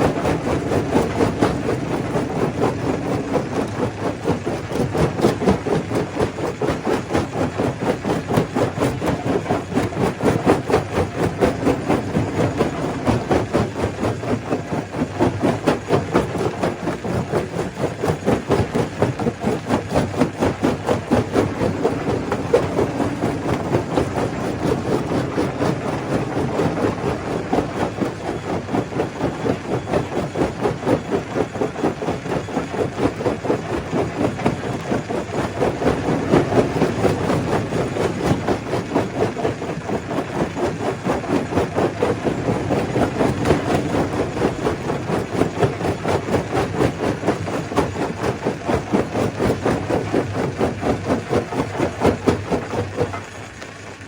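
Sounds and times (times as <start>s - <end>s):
stone crusher crushing rock: 0.0s - 53.2s.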